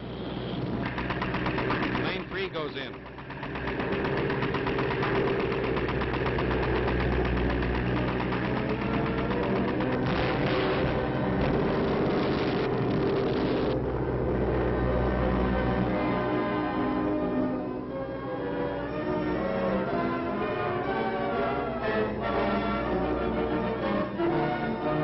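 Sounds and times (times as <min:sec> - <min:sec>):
aircraft engines droning: 0:00.0 - 0:25.0.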